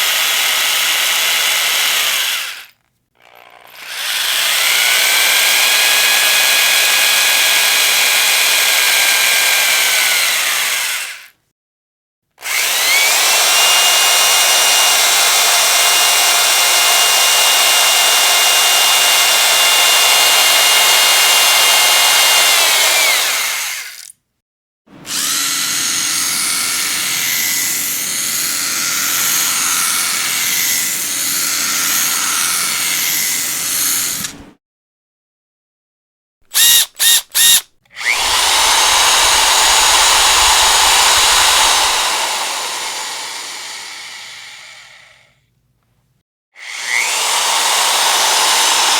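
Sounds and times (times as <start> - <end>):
electric power drill running: 0.0 - 11.3, 12.4 - 24.1, 25.0 - 34.3, 36.5 - 45.3, 46.6 - 48.9.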